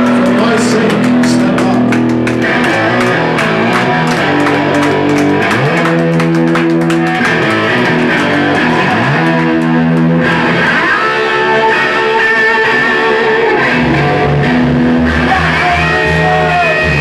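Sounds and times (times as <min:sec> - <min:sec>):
rock band instrumental riff: 0:00.0 - 0:17.0.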